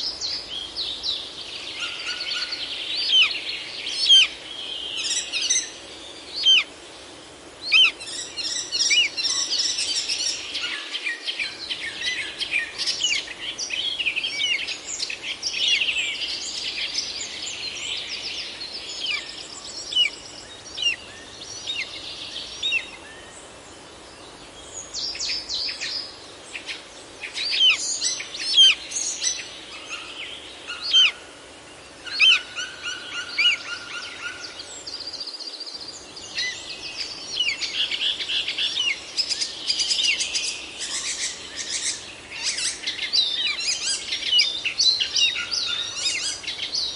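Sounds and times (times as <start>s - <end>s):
steady background hiss: 0.0s - 46.9s
wild birds chirping and whistling: 0.0s - 46.9s.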